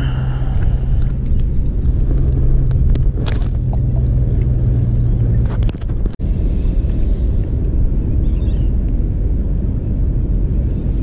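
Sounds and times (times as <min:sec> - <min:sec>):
low engine drone: 0:00.0 - 0:11.0
wind rumble on microphone: 0:00.0 - 0:11.0.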